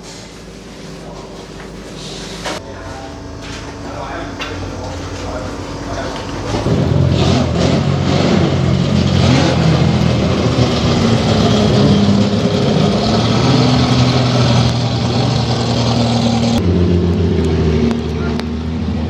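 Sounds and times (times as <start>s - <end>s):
race car engine idling and revving: 1.8s - 19.0s.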